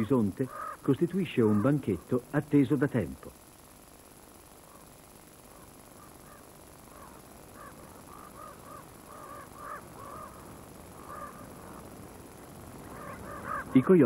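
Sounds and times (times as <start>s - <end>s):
faint steady hiss: 0.0s - 14.0s
ravens croaking: 0.0s - 14.0s.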